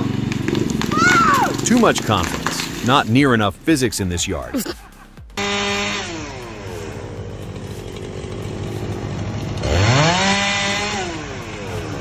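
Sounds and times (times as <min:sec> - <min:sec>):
chainsaw engine revving: 0:00.0 - 0:03.8, 0:05.4 - 0:12.0.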